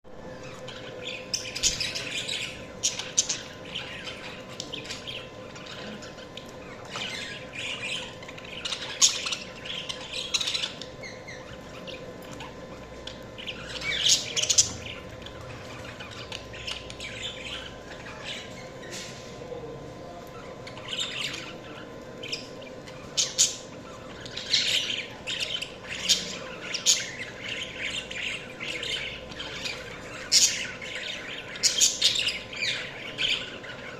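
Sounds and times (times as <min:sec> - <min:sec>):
budgerigars chirping: 0:00.4 - 0:19.2, 0:20.4 - 0:33.9.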